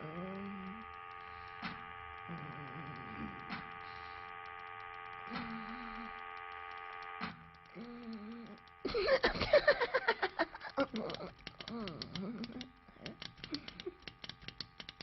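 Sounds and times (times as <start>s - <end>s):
quiet hum of held tones: 0.0s - 15.0s
sharp clicks: 0.0s - 15.0s
wavering pitched whirs: 0.0s - 15.0s.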